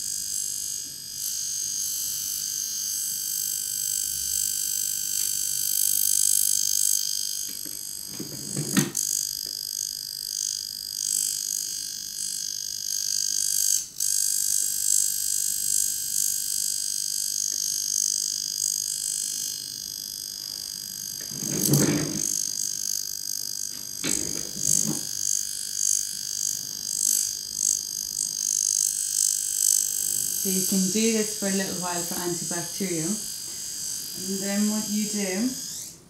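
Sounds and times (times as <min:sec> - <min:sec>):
high-pitched electrical buzz: 0:00.0 - 0:36.0.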